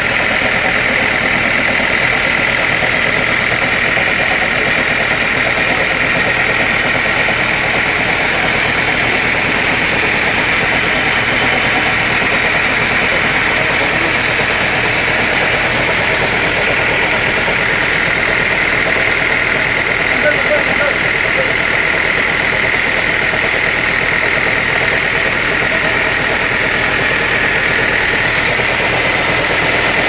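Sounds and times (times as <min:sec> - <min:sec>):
high machine whine: 0:00.0 - 0:30.0
sawmill machinery drone: 0:00.0 - 0:30.0.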